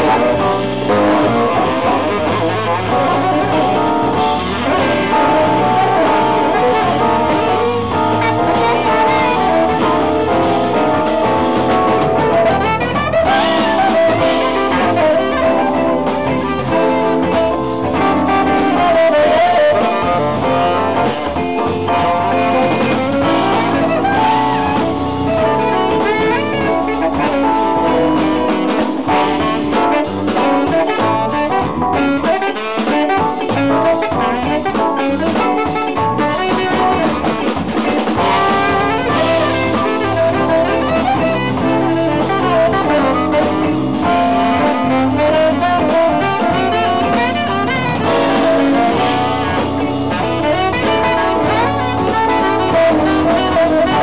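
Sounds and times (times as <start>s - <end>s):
jazz band playing: 0.0s - 54.0s
saxophone: 0.0s - 54.0s.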